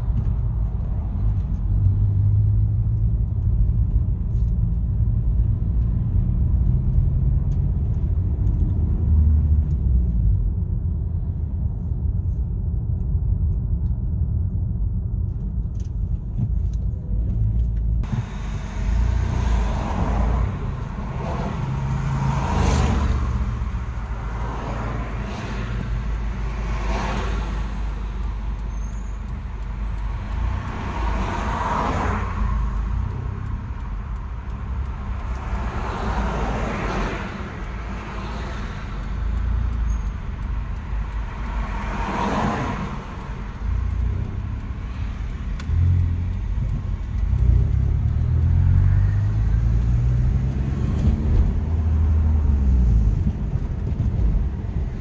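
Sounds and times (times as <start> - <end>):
passing vehicles: 0.0 - 55.0
road and engine rumble: 0.0 - 55.0.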